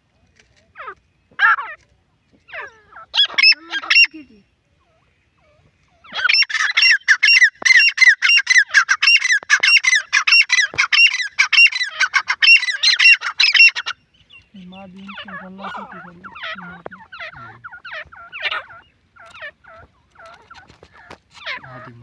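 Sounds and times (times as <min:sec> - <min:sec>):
francolin calling: 0:02.5 - 0:22.0.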